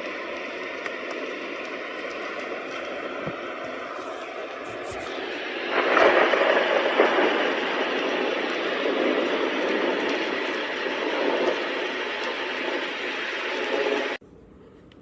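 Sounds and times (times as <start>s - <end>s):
white noise machine rushing: 0.0s - 14.2s.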